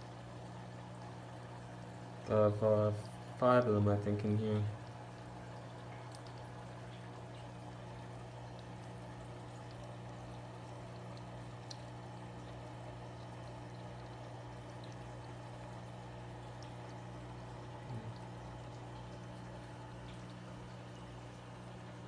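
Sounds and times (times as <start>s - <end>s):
low filter hum: 0.0s - 22.0s
water trickling: 0.0s - 22.0s.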